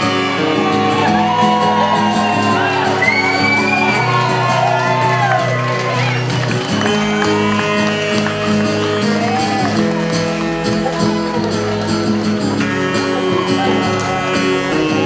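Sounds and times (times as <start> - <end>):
live band music: 0.0 - 15.0
strummed acoustic guitar: 0.0 - 15.0.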